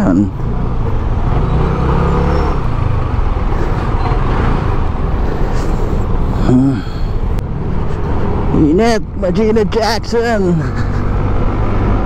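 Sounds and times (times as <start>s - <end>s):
scooter engine and traffic rumble: 0.0s - 12.0s.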